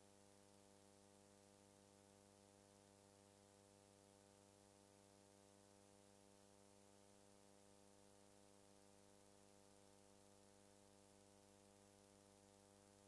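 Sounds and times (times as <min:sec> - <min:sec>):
faint hum with hiss: 0:00.0 - 0:13.0.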